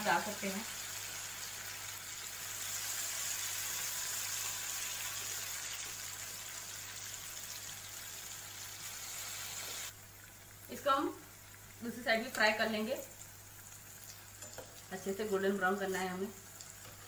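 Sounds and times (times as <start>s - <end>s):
food deep-frying in hot oil: 0.0s - 17.0s.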